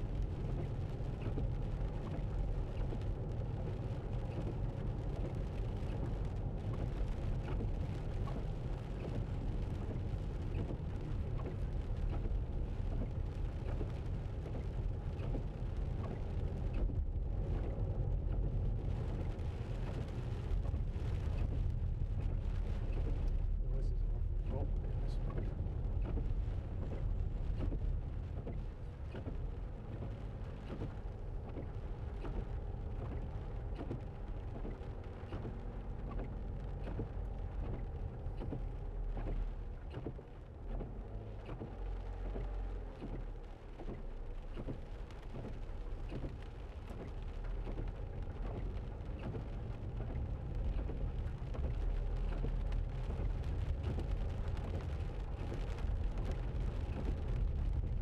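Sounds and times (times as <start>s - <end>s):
engine and tyre rumble: 0.0s - 58.0s
rain ticking on windscreen: 0.0s - 58.0s.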